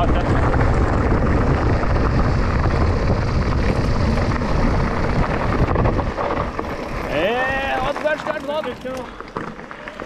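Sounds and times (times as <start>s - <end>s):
wind rumbling on microphone: 0.0s - 9.8s
tyres crunching over stones: 0.4s - 10.0s.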